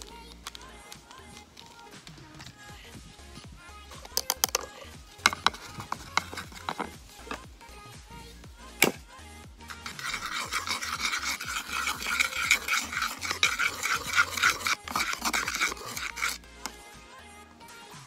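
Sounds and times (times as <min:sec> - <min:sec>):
rhythmic rasping strokes: 0:00.0 - 0:17.0.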